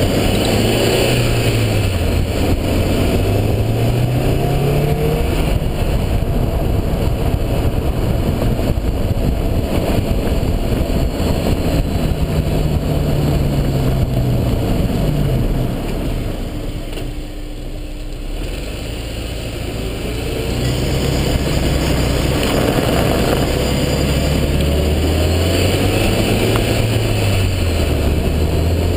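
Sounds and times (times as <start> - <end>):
car engine rising and falling: 0.0 - 28.9
road noise: 0.0 - 28.9.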